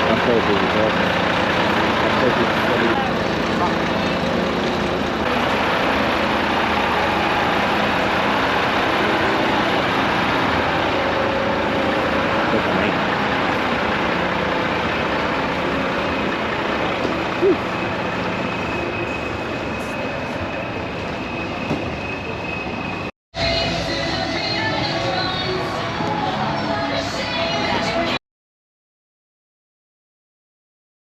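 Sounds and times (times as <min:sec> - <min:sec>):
diesel truck engines running: 0:00.0 - 0:28.2.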